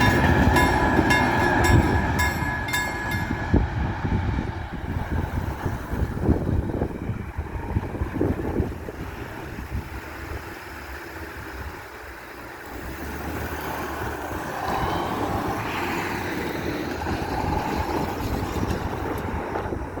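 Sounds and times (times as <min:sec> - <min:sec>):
freight train rumbling past: 0:00.0 - 0:20.0
wind buffeting microphone: 0:00.0 - 0:20.0.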